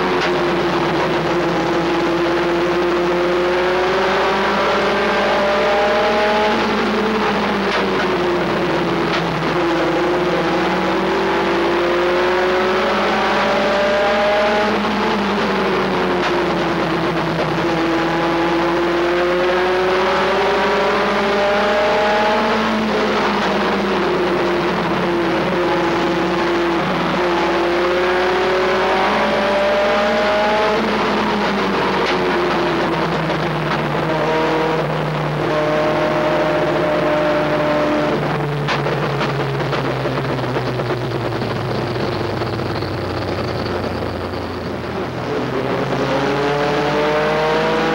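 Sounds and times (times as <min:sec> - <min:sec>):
truck engine racing: 0:00.0 - 0:47.9.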